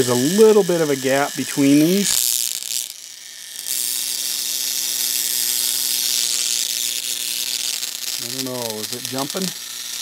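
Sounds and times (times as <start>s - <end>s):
electric spark buzzing and hissing: 0.0s - 10.0s.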